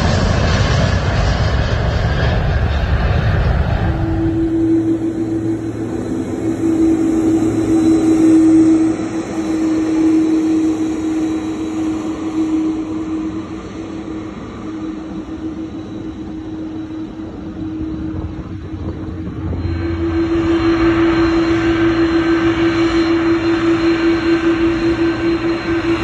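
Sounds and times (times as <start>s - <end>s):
airliner engines droning: 0.0s - 26.0s.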